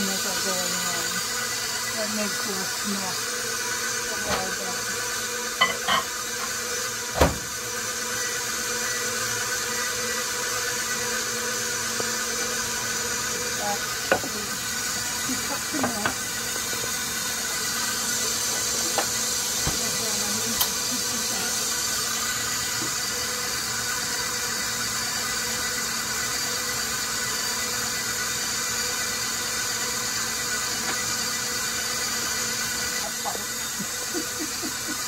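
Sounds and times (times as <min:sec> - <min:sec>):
stand mixer motor humming: 0:00.0 - 0:35.0.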